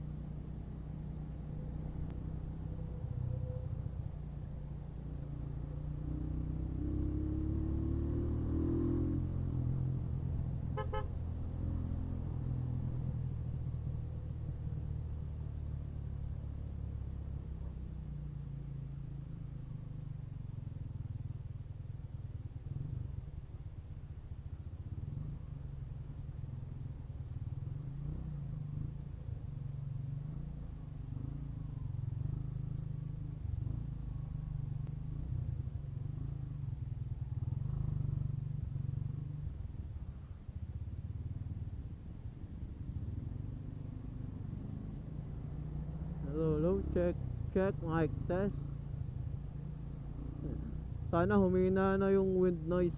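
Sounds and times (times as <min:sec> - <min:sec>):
motorcycle engine rumble: 0:00.0 - 0:52.9.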